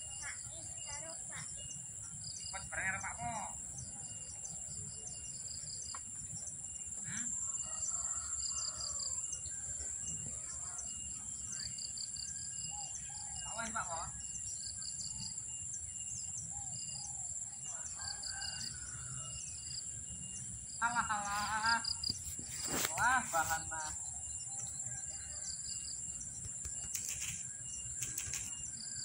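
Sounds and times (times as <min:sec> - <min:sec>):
high-pitched insect trill: 0:00.0 - 0:29.0
insect chirps: 0:00.0 - 0:29.0.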